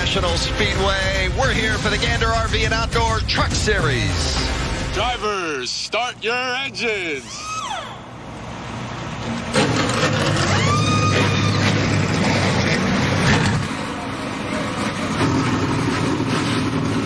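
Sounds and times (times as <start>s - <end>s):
engine whine: 0.0s - 17.0s
truck engine rumbling: 0.0s - 17.0s.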